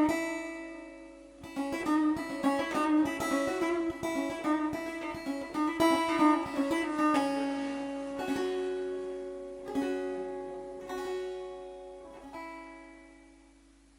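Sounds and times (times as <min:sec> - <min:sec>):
plucked string instrument: 0:00.0 - 0:13.9.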